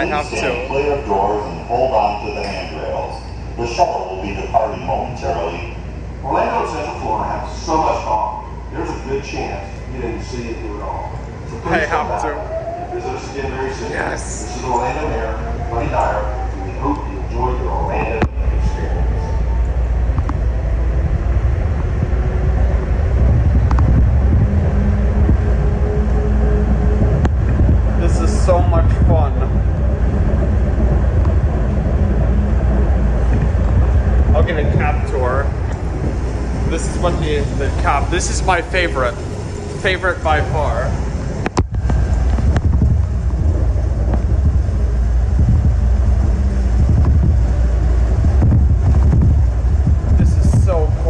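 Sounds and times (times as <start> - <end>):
faint hum: 0.0 - 51.0
train low rumble: 0.0 - 51.0.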